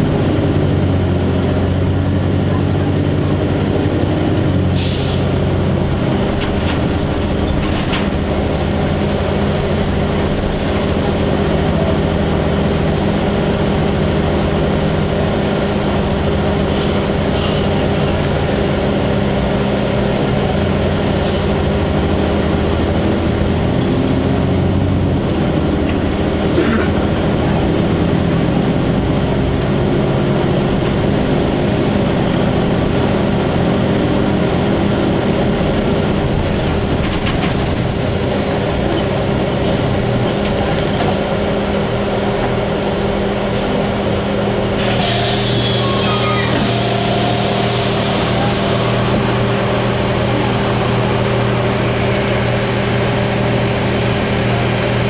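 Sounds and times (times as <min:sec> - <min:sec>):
bus diesel engine drone: 0:00.0 - 0:55.0
road noise: 0:00.0 - 0:55.0.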